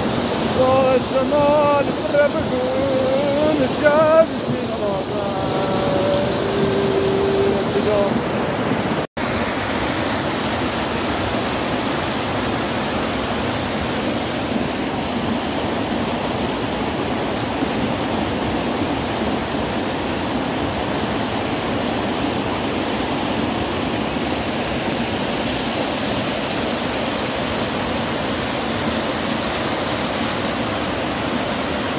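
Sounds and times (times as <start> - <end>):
floodwater rushing: 0.0 - 31.9.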